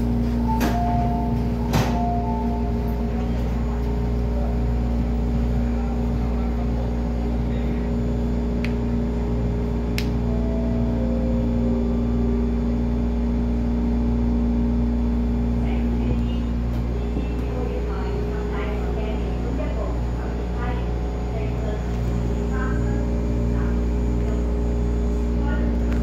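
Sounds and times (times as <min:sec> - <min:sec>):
electric train rumble and hum: 0:00.0 - 0:26.0.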